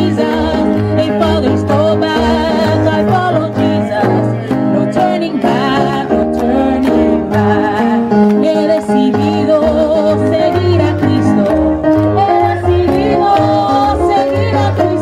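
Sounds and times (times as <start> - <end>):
instrumental accompaniment with bass: 0.0 - 15.0.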